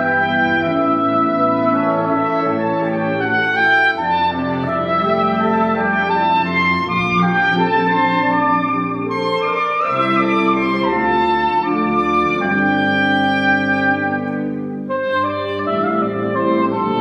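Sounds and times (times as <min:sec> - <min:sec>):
saxophone ensemble chords: 0:00.0 - 0:17.0
soprano saxophone solo: 0:00.0 - 0:17.0.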